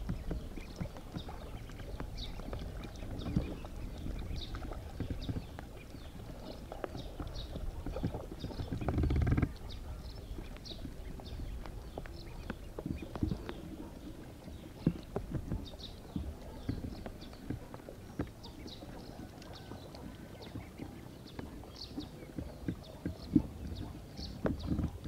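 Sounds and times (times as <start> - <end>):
ducklings peeping: 0.1 - 25.0.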